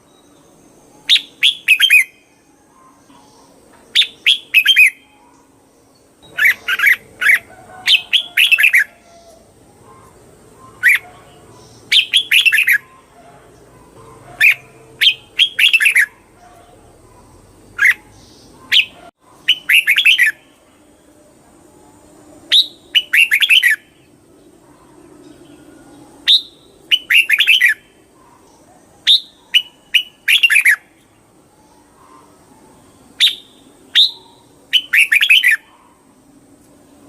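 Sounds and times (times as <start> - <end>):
bird chirping phrases: 0.0 - 36.4.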